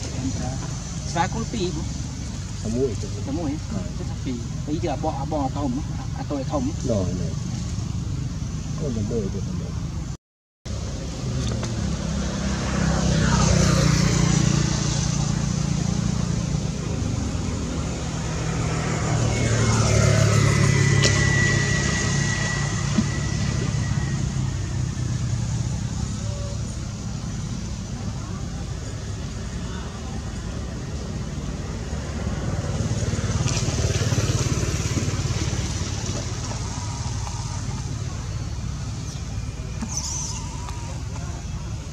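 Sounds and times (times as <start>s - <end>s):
low rumble of traffic: 0.0s - 41.9s
vehicles passing: 0.0s - 41.9s.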